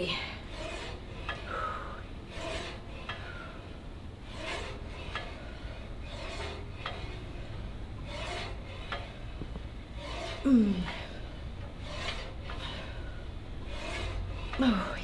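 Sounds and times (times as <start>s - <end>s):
exercise machine rasping stroke: 0.0s - 15.0s.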